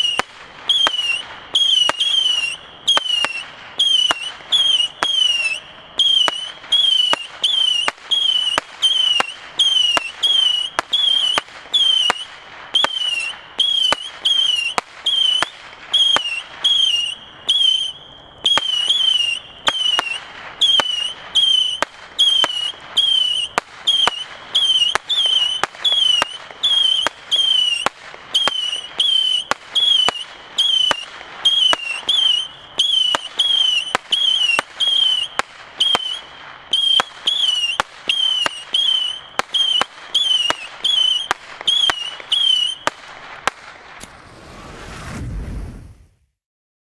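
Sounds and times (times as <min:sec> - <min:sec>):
whistling firework missiles firing: 0:00.0 - 0:46.4.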